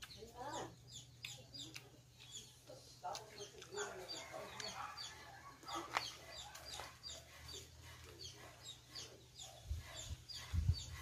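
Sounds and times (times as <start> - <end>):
chickens clucking and peeping: 0.0 - 11.0.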